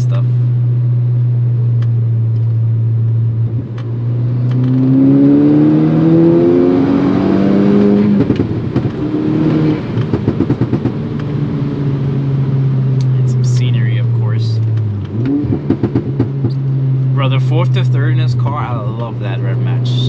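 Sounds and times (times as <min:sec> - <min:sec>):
car engine and exhaust drone: 0:00.0 - 0:20.0.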